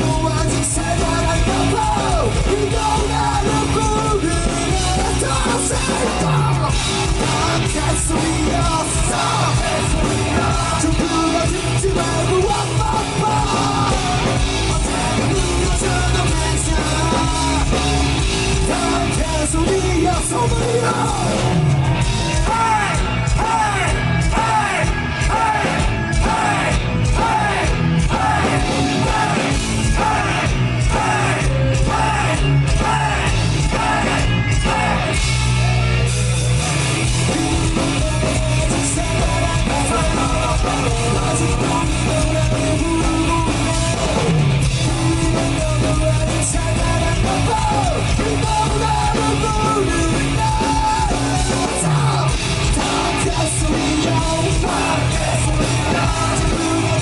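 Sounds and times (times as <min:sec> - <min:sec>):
loud live rock band: 0:00.0 - 0:57.0.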